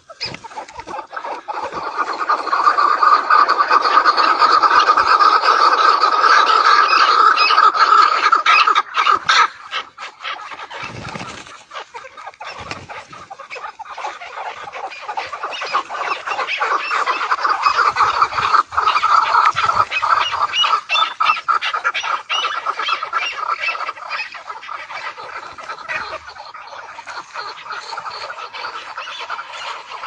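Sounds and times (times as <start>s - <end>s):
birds calling: 0.0s - 30.0s.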